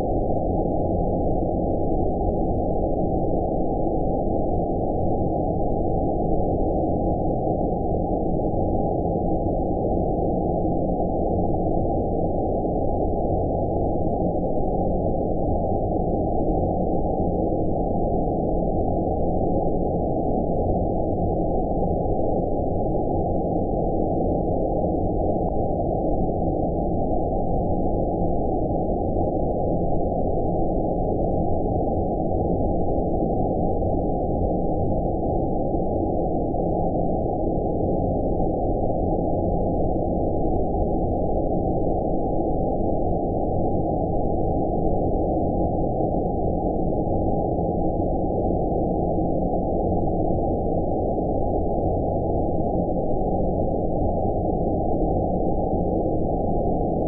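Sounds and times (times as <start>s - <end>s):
deep steady ambient noise: 0.0s - 57.0s.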